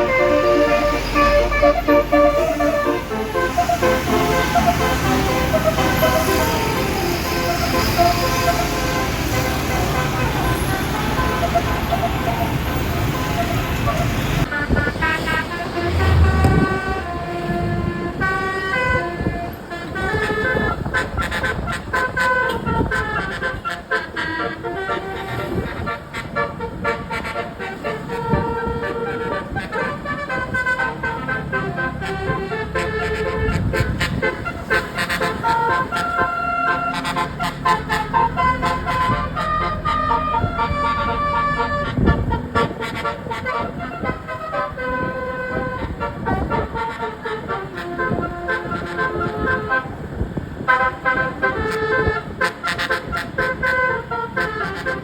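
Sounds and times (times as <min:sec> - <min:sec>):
engine and traffic rumble: 0:00.0 - 0:55.0
multi-tone air horn melody: 0:00.0 - 0:55.0.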